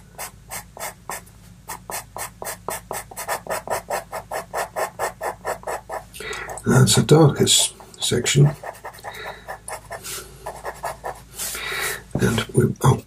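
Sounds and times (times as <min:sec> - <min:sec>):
pastel pencil scratching on paper: 0:00.0 - 0:06.1, 0:07.3 - 0:12.5.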